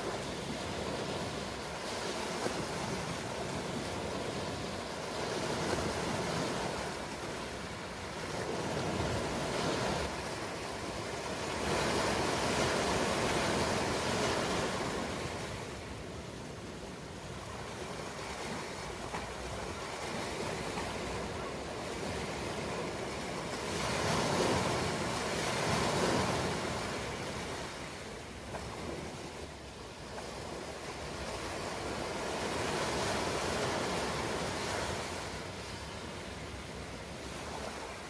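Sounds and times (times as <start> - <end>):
ocean waves breaking on shore: 0.0 - 38.0.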